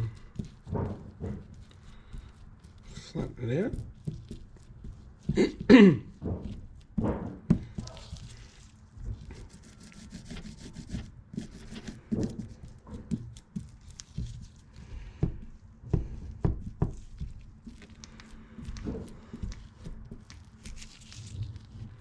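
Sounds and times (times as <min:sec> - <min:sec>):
hands and tools knocking and rubbing: 0:00.0 - 0:22.0.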